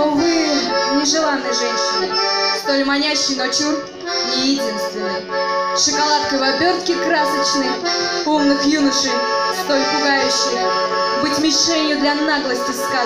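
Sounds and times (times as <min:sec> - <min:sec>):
accordion playing melody: 0:00.0 - 0:13.0.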